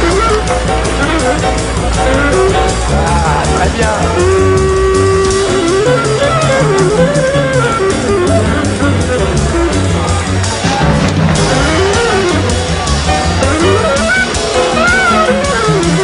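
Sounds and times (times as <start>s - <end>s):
band playing a melody: 0.0s - 16.0s
pulsing bass: 0.0s - 16.0s.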